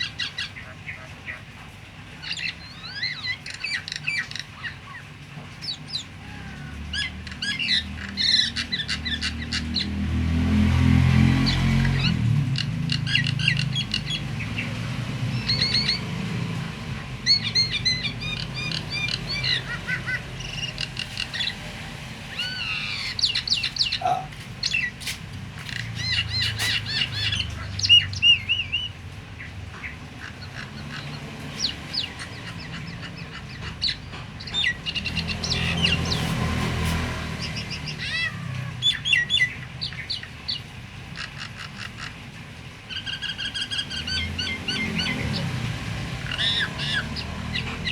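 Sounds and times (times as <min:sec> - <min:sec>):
starling chirping and whistling: 0:02.2 - 0:10.0, 0:11.4 - 0:16.4, 0:17.2 - 0:21.7, 0:22.3 - 0:42.2, 0:42.9 - 0:47.9.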